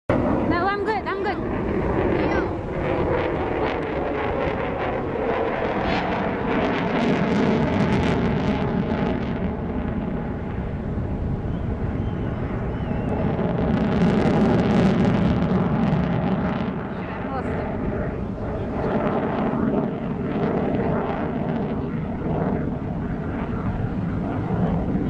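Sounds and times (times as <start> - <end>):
jet aircraft flying overhead: 0.1 - 25.0.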